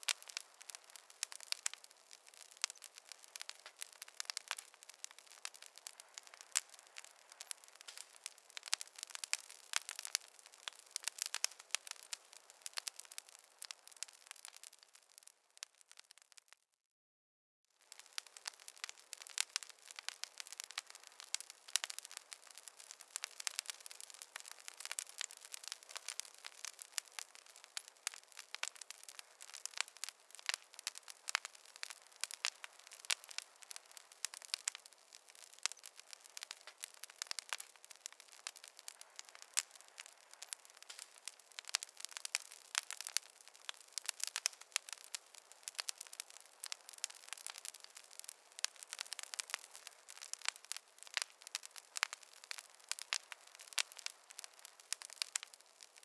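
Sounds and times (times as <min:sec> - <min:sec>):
campfire crackling: 0:00.0 - 0:16.6, 0:17.8 - 0:56.0.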